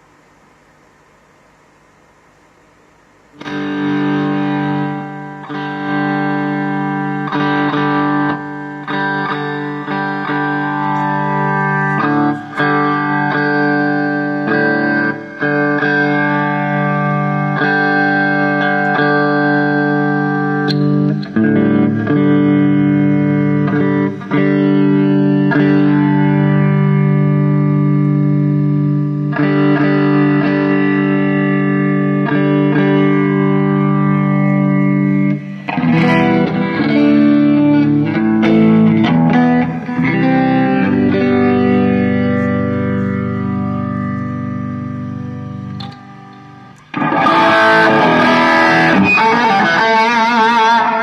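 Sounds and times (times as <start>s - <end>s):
distorted electric guitar chords: 0.0s - 51.0s
faint amplifier hiss: 0.0s - 51.0s.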